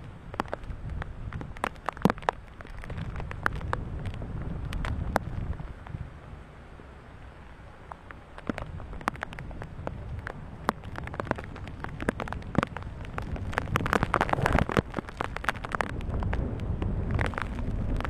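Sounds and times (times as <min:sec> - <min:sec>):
rain drops tapping: 0:00.0 - 0:06.3, 0:07.0 - 0:18.0
wind rumbling on microphone: 0:00.0 - 0:18.0.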